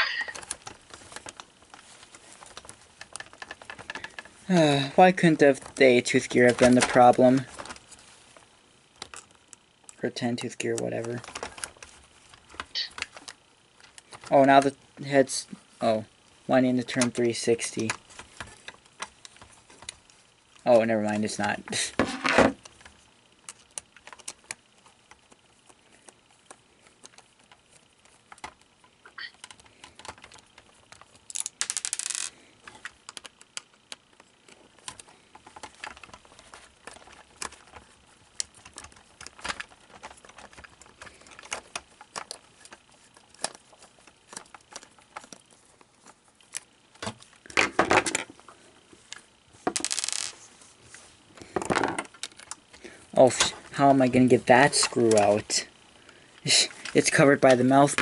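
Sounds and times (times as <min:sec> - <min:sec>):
plastic parts clicking and rattling: 0:00.0 - 0:50.4, 0:51.3 - 0:55.7.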